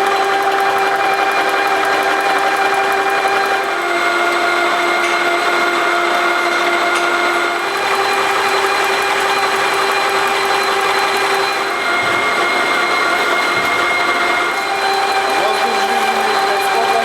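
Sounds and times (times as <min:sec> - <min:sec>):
stirling engine whirring: 0:00.0 - 0:17.0.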